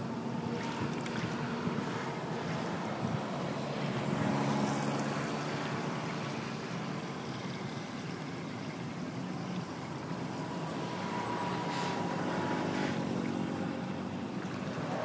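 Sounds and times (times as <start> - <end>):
vehicle engine humming: 0.0 - 15.0
water rushing into storm drain: 0.4 - 15.0.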